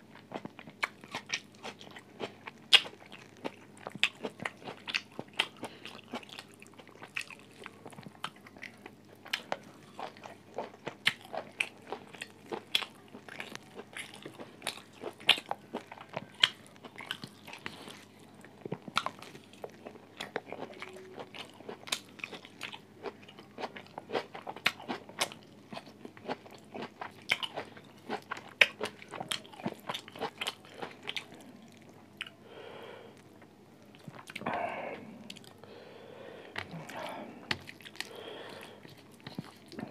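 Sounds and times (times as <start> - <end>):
person chewing crunchy food: 0.0 - 32.4, 33.2 - 35.8, 36.4 - 39.9.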